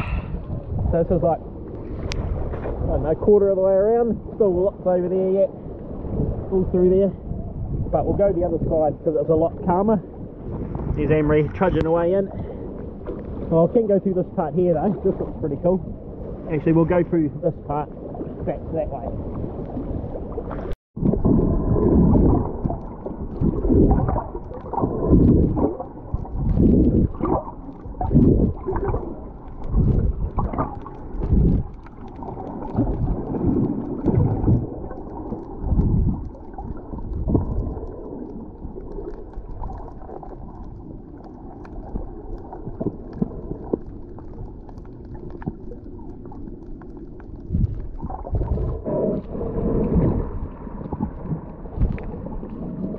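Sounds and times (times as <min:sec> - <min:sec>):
water sloshing and gurgling: 0:00.0 - 0:52.9.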